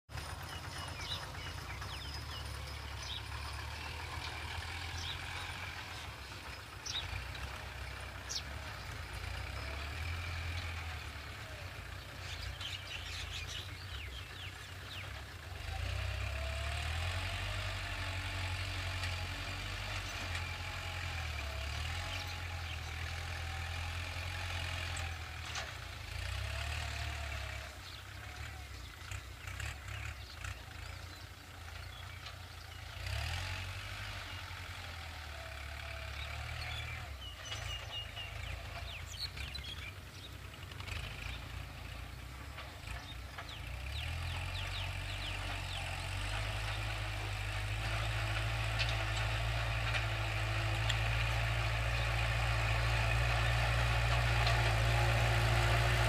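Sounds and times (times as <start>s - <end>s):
diesel tractor engine rumble: 0.1s - 56.0s.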